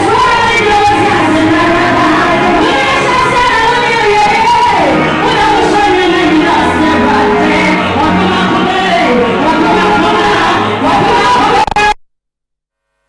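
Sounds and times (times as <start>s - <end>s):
song with singing: 0.0s - 12.0s.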